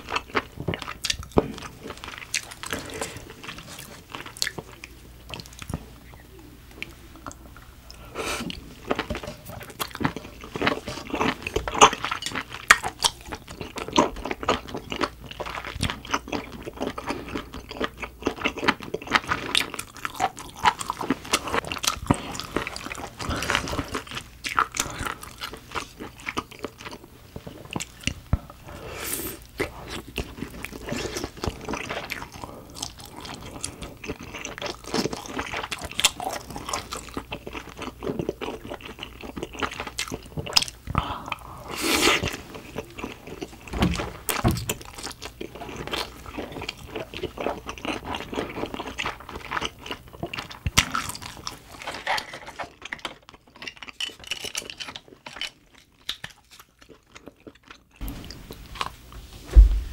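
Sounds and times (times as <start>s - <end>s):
close chewing with crunches: 0.0s - 59.9s.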